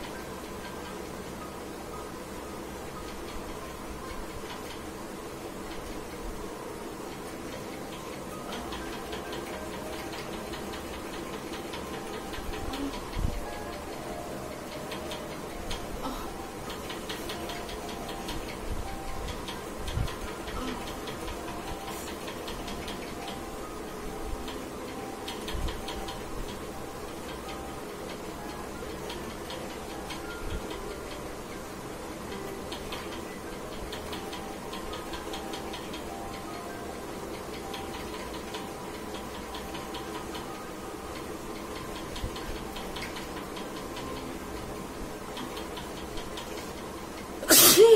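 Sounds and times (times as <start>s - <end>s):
rapid light ticking: 0.0s - 47.5s
low background hum: 0.0s - 47.9s.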